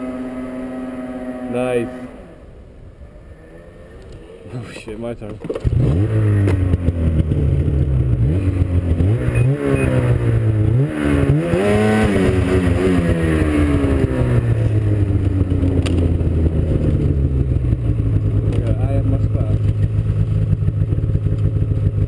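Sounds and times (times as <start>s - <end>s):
snowmobile engine revving: 0.0s - 5.0s, 5.6s - 19.6s.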